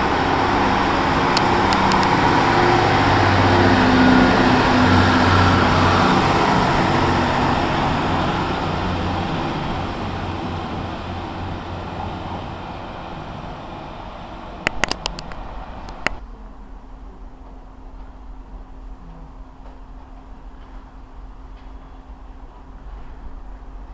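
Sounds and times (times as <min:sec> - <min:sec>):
train engine hum: 0:00.0 - 0:23.9
train wheel rumble: 0:00.0 - 0:23.9.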